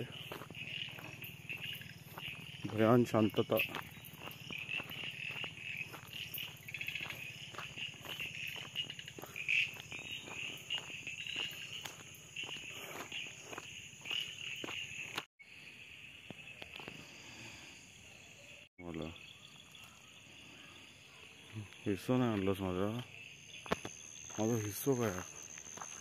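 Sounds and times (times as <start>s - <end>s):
crickets and insects trilling: 0.0s - 26.0s
frogs calling: 0.0s - 26.0s.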